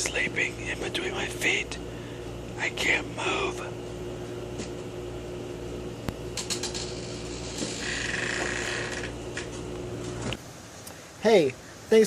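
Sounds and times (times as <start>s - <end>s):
low hum inside car cabin: 0.0s - 10.4s.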